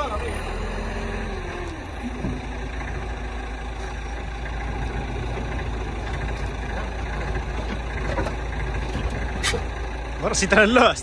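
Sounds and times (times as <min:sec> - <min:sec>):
forklift engine idling: 0:00.0 - 0:11.0.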